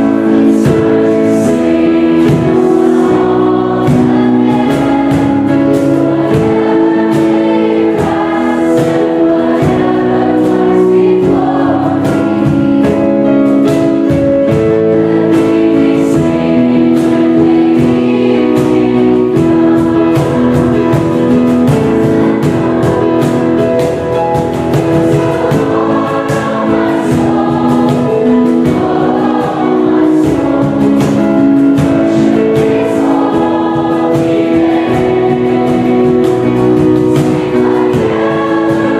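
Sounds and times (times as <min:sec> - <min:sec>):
choir singing worship music: 0:00.0 - 0:38.9
instrumental accompaniment with beat: 0:00.0 - 0:38.9.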